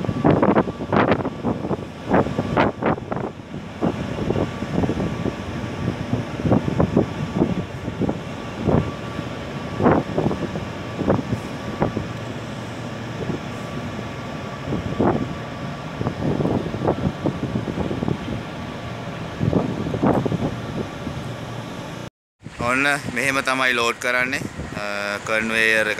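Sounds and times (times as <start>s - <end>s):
wind buffeting microphone: 0.0s - 25.9s
loading machinery drone: 0.1s - 23.4s.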